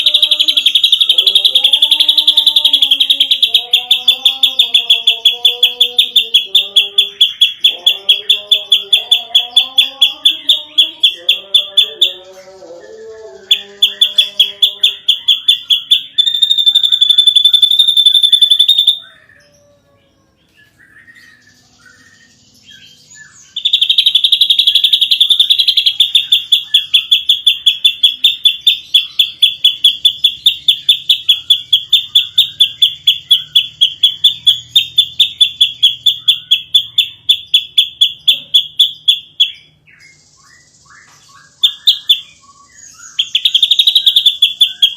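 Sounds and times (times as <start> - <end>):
bird singing sharp high notes: 0.0 - 44.9.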